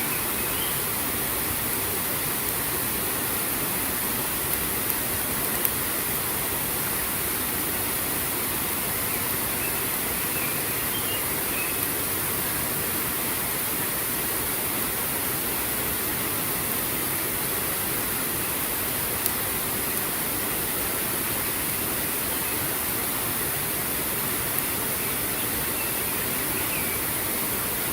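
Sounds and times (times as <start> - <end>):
water rushing: 0.0 - 27.9.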